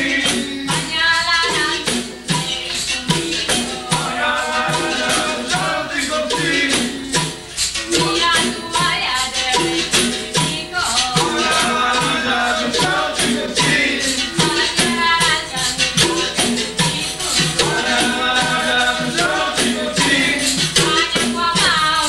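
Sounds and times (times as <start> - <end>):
shaker: 0.0 - 22.0
tambourine drum beat: 0.0 - 22.0
voices singing: 0.0 - 22.0.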